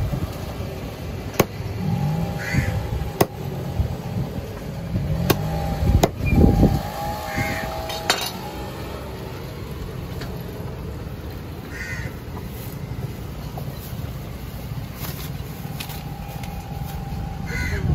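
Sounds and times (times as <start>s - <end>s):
road traffic rumble: 0.0s - 17.9s.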